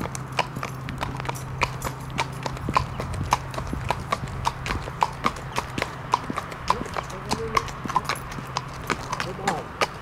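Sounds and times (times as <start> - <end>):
horse hooves clip-clopping: 0.0 - 10.0.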